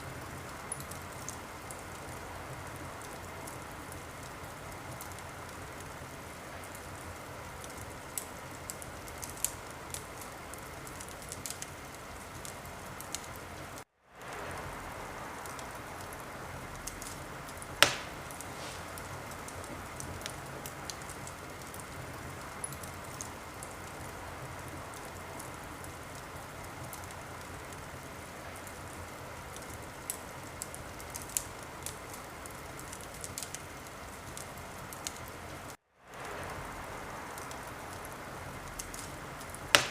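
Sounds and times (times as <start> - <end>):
fire crackling and popping: 0.0 - 39.9
wood fire hissing: 0.0 - 39.9.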